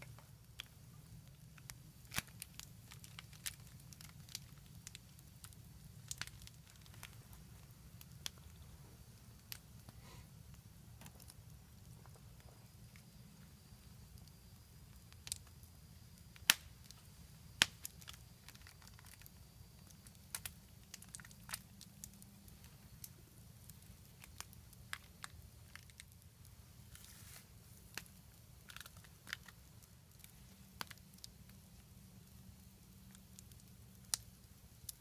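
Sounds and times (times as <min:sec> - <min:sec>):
campfire crackling: 0:00.0 - 0:35.0
low steady rumble: 0:00.0 - 0:35.0.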